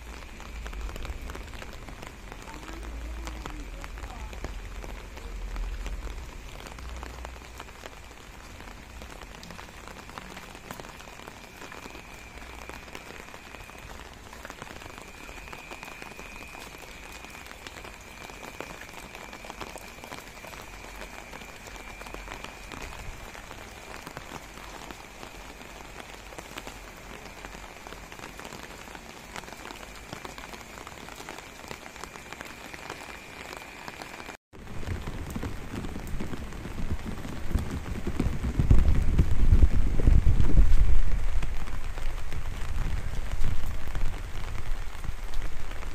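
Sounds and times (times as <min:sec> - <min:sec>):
light rain on wet ground: 0:00.0 - 0:45.9.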